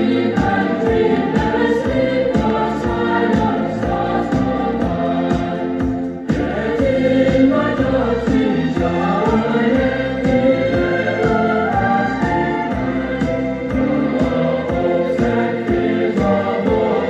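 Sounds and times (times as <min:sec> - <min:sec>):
choir singing a carol with backing: 0:00.0 - 0:17.0.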